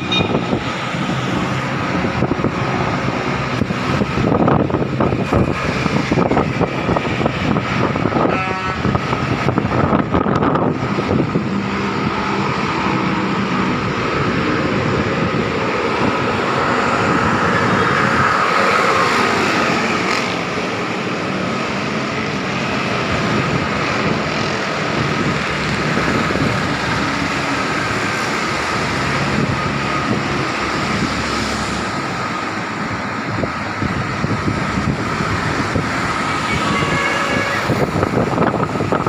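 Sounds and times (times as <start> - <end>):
road traffic: 0.0 - 39.0
wind rushing over microphone: 0.0 - 39.0.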